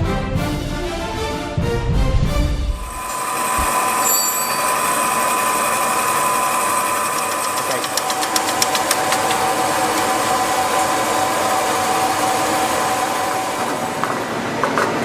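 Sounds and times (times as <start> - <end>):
machine whirring with constant tone: 2.7 - 15.0.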